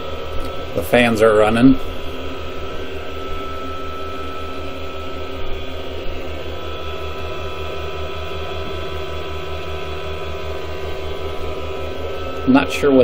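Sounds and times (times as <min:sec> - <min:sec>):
power inverter hum and whine: 0:00.0 - 0:13.0.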